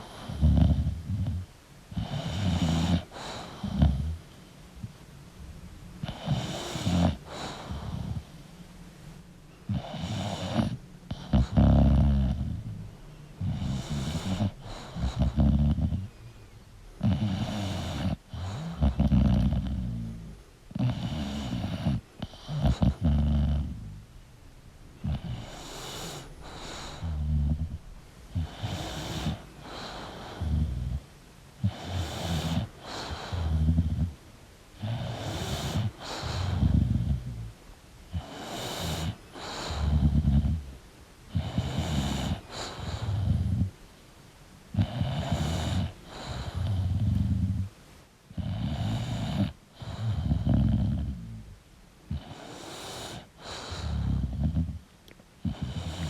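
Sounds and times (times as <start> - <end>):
dog snoring: 0.0 - 5.0, 6.0 - 8.4, 9.7 - 16.2, 17.0 - 24.1, 25.0 - 34.2, 34.8 - 43.8, 44.7 - 47.7, 48.3 - 56.0.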